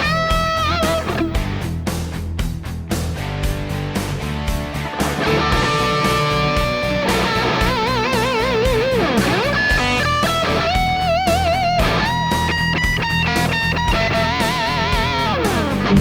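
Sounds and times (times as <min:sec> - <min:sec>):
distorted electric guitar lead: 0:00.0 - 0:02.0, 0:03.2 - 0:16.0.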